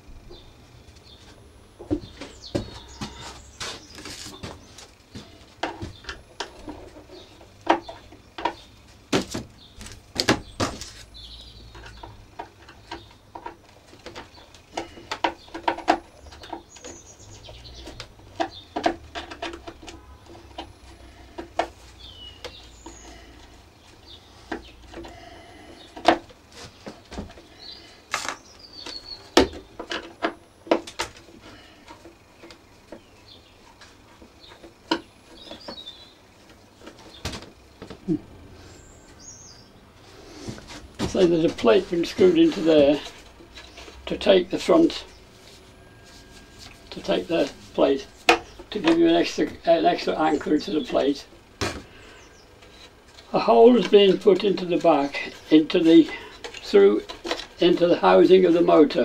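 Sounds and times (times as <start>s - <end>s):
birds chirping faintly: 0.0s - 59.0s.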